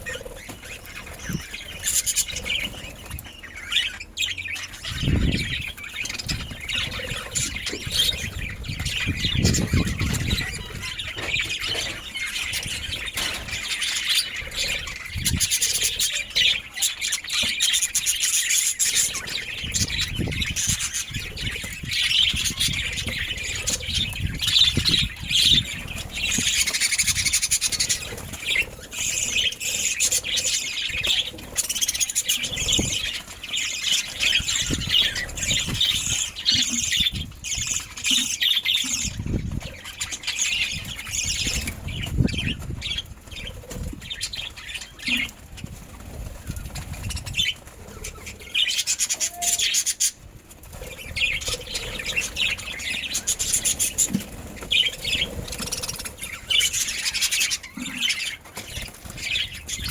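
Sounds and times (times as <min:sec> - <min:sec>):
budgerigars chattering: 0:00.0 - 0:45.4, 0:50.8 - 0:59.9.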